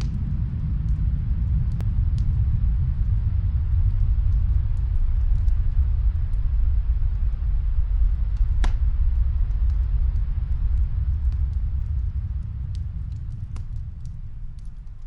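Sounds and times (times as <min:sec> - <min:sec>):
faint fireplace crackles: 0:00.0 - 0:15.0
snowstorm wind rumbling: 0:00.0 - 0:15.0.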